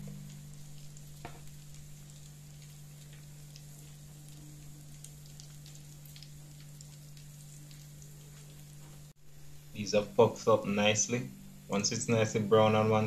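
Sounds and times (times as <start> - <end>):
oil sizzling with pops: 0.0 - 12.8
low hum: 0.0 - 13.0.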